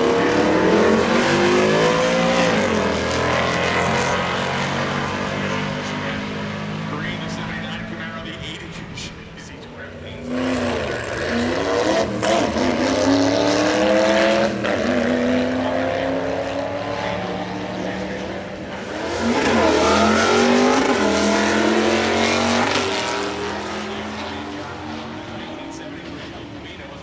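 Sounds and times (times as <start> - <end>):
drag car engines accelerating: 0.0 - 27.0.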